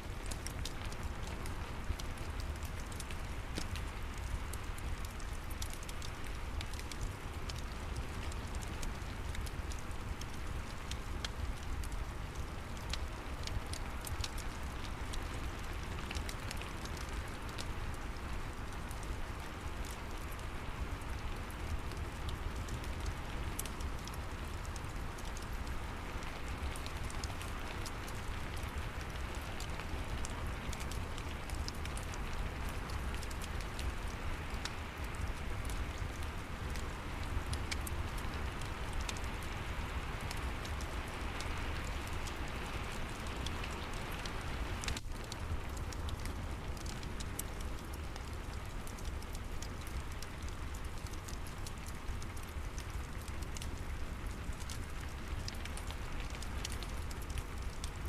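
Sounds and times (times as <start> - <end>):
steady rain: 0.0 - 58.0
fireplace crackling: 0.1 - 58.0.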